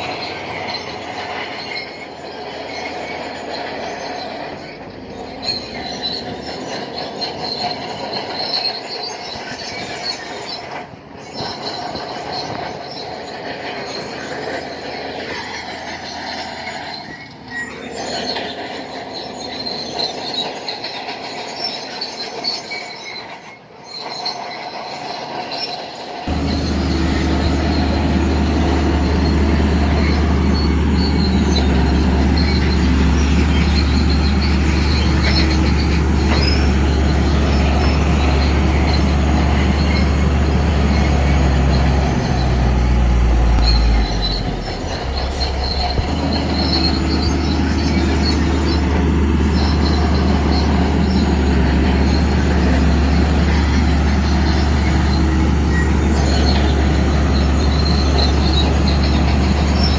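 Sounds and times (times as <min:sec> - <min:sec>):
bulldozer diesel engine hum: 0:00.0 - 0:59.9
steel tracks squealing and clanking: 0:00.0 - 0:59.9.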